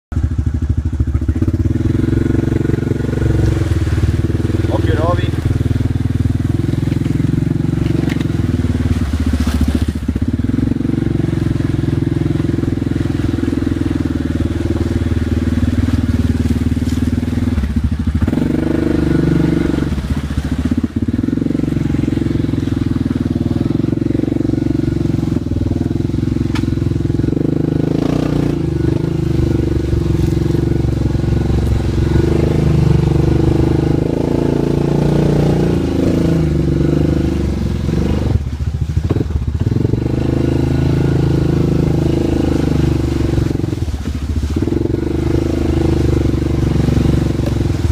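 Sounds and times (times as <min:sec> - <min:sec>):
quad engine revving under load: 0:00.1 - 0:47.9.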